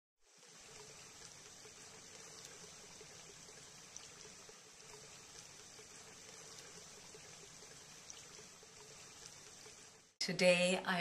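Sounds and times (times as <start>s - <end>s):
faint room hiss: 0.2s - 11.0s.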